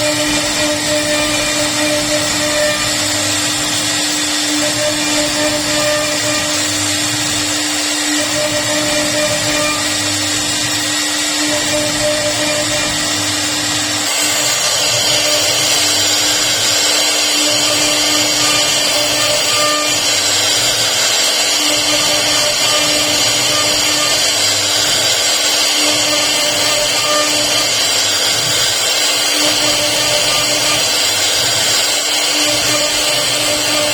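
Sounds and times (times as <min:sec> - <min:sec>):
cnc router carving wood: 0:00.0 - 0:33.9.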